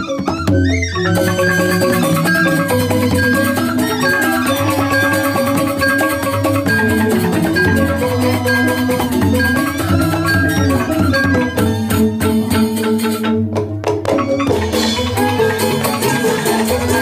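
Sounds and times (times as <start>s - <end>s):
gamelan music: 0.0s - 17.0s.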